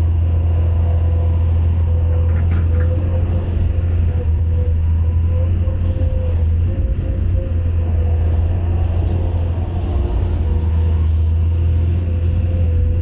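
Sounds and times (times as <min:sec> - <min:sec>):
diesel engine droning: 0:00.0 - 0:13.0
thin wavering whine: 0:00.0 - 0:13.0.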